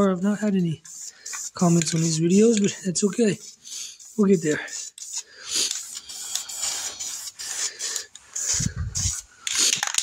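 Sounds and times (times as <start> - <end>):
spray paint can hissing: 0.4 - 10.0.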